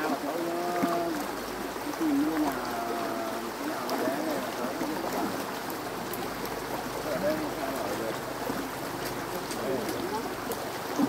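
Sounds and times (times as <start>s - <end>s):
people talking indistinctly: 0.0s - 5.7s, 6.8s - 10.6s.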